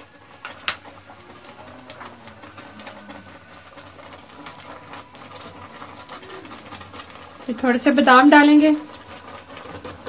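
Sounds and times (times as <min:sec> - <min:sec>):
thick liquid simmering in a pan: 0:00.0 - 0:10.0.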